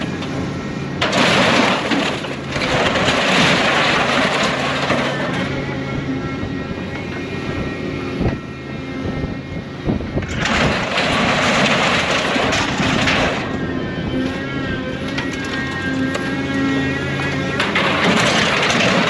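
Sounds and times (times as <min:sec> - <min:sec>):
scrap metal clattering and grinding: 0:00.0 - 0:07.3, 0:10.2 - 0:19.0
diesel engine running under load: 0:00.0 - 0:19.0.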